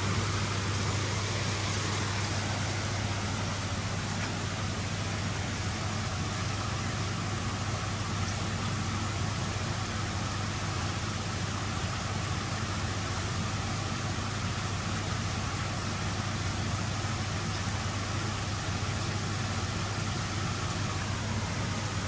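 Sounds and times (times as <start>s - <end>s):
pond pump humming: 0.0s - 22.0s
water rushing: 0.0s - 22.0s.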